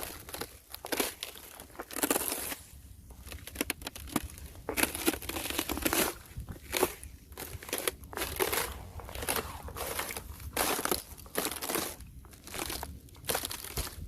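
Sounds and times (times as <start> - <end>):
ice crunching and crackling: 0.0 - 14.0.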